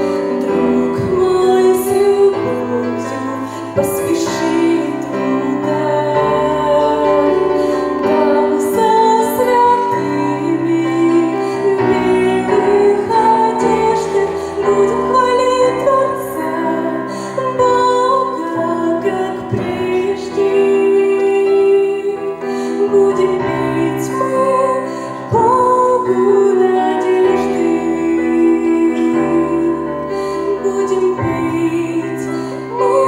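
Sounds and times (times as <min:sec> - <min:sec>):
woman singing slow song: 0:00.0 - 0:33.0.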